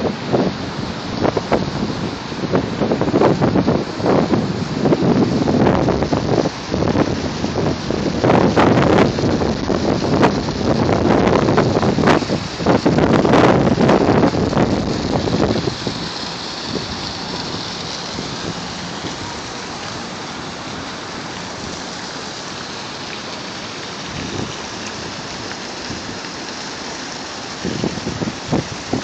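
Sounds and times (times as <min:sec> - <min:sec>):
wind buffeting microphone: 0:00.0 - 0:20.6, 0:24.0 - 0:26.3, 0:27.5 - 0:29.0
fountain water splashing: 0:00.0 - 0:29.0.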